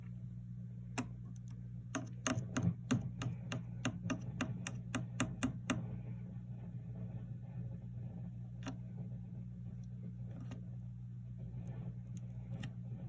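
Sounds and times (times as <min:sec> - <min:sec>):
steady mains hum: 0:00.0 - 0:13.0.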